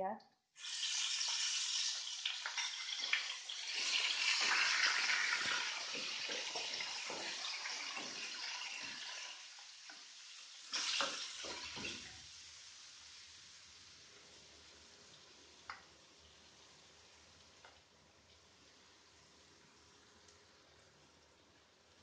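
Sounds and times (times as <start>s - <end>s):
spice paste sizzling in oil: 0.6s - 22.0s.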